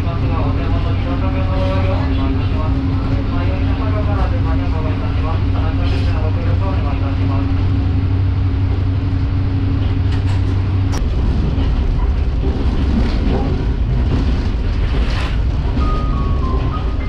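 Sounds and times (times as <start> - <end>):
diesel engine drone: 0.0 - 17.0
wheels rumbling on rails: 0.0 - 17.0.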